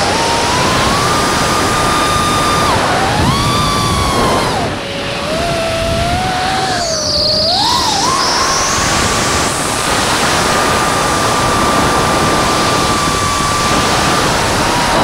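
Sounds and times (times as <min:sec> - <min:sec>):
drone motors whining: 0:00.0 - 0:15.0
loud rush of air: 0:00.0 - 0:15.0.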